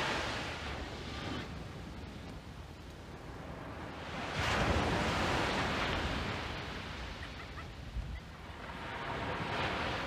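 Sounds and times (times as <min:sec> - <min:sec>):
sea waves washing on sand: 0:00.0 - 0:02.1, 0:03.2 - 0:07.8, 0:08.4 - 0:10.0.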